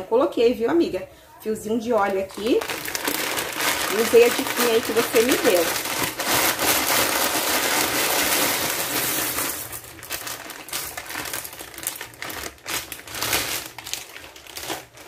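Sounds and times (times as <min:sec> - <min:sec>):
plastic bag crinkling: 0:01.8 - 0:15.0
dry pasta pouring into pot: 0:02.3 - 0:15.0.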